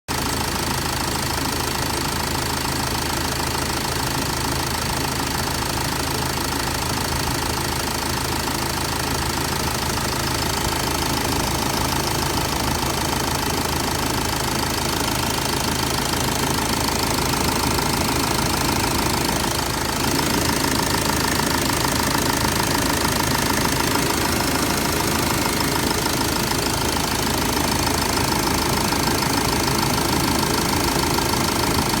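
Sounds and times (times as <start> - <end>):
van engine running: 0.1 - 32.0.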